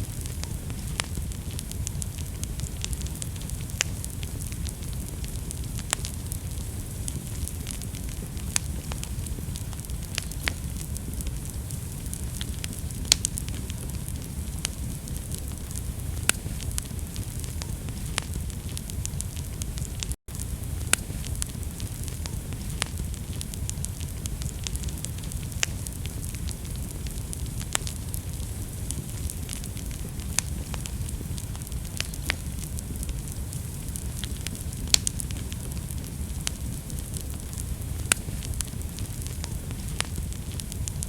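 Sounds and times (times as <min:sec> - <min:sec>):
fire crackling and popping: 0:00.0 - 0:41.0
fire low rumble: 0:00.0 - 0:41.0.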